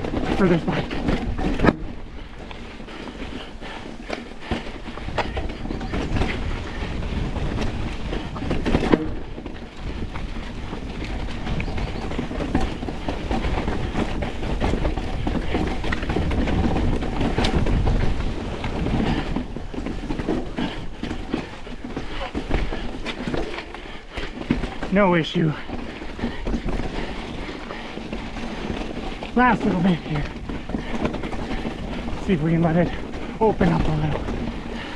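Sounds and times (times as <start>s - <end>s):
bike knocking and rattling: 0.0s - 34.9s
tyres rumbling over rock and dirt: 0.0s - 34.9s.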